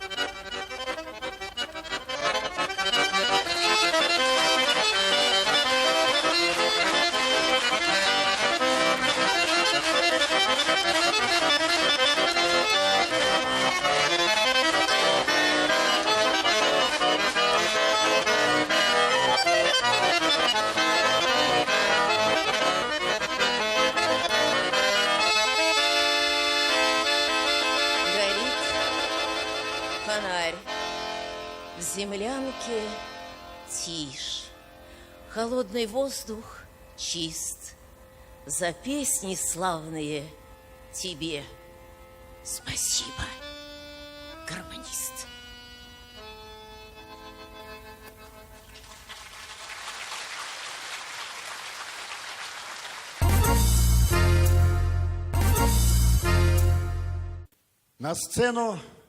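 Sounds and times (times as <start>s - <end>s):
accordion playing folk melody: 0.0s - 49.5s, 51.7s - 57.6s.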